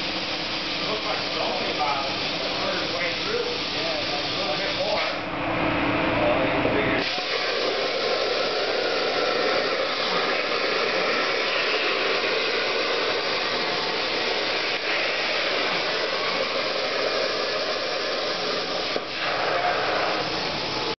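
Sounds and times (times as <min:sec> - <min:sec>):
plasma cutter hissing: 0:00.0 - 0:05.3, 0:07.0 - 0:21.0.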